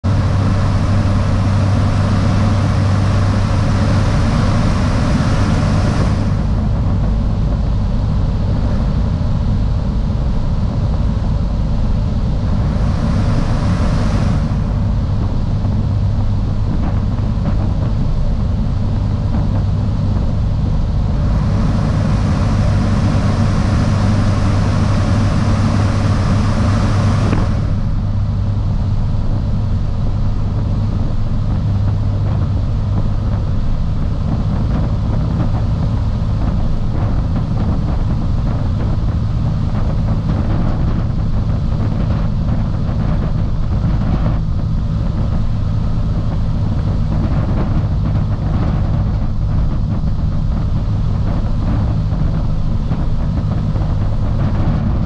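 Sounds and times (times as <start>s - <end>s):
light aircraft engine droning: 0.0s - 55.0s
wind rushing over microphone: 0.0s - 55.0s.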